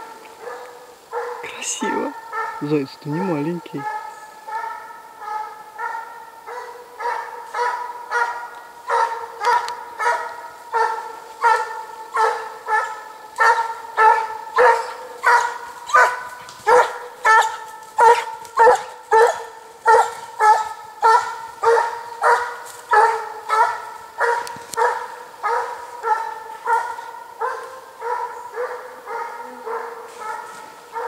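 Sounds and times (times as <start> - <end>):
hound baying: 0.0 - 2.8, 3.8 - 31.0.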